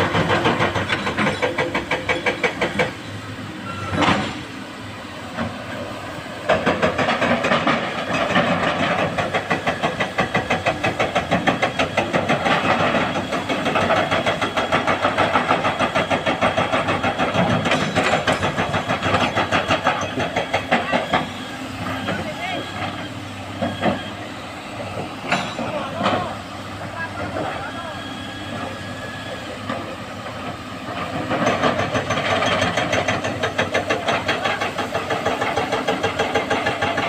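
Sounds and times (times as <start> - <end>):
diesel machinery engines throbbing: 0.0 - 37.0.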